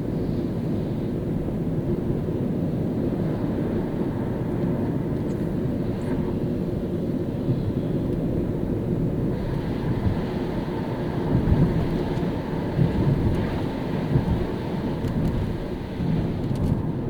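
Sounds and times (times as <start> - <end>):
car driving on wet road: 0.1 - 17.0.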